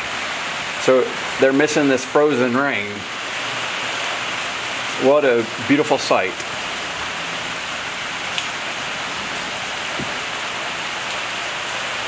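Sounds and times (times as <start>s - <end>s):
heavy rain on patio and umbrella: 0.0s - 12.0s.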